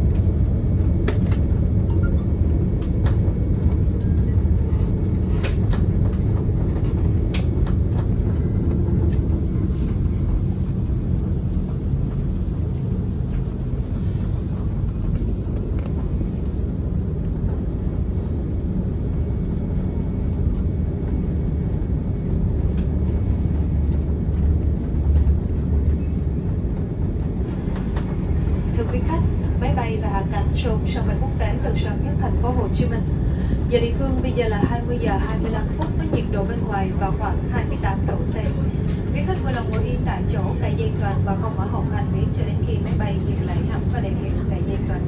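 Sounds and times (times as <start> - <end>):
aircraft cabin rumble: 0.0 - 45.0.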